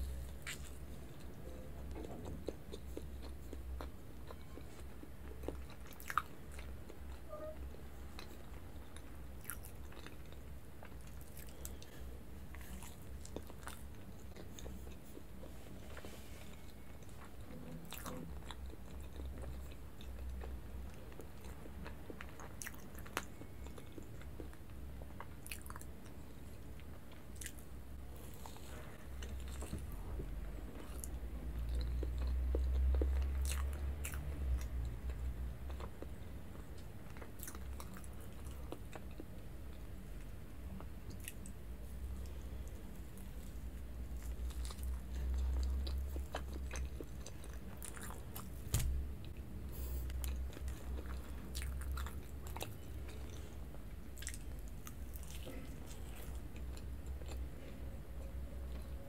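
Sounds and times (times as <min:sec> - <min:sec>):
person chewing cake: 0:00.0 - 0:48.6, 0:49.2 - 0:59.0
steady low hum: 0:00.0 - 0:59.0.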